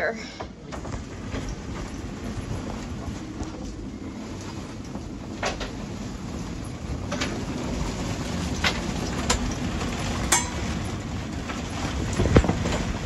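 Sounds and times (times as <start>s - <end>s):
storm wind rumbling: 0.0s - 13.0s.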